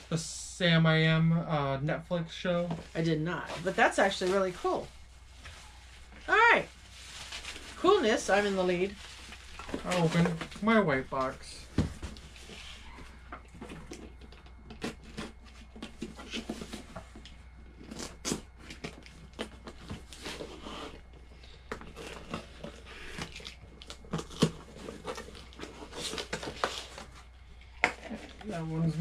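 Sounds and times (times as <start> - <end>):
cardboard rustling and scraping: 2.6 - 29.0.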